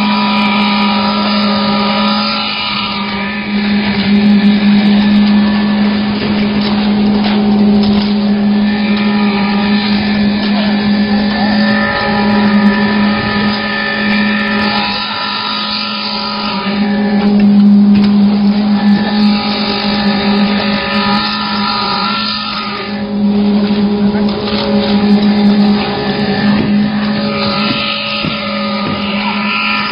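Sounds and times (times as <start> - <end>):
concrete pump machine hum: 0.0 - 29.9.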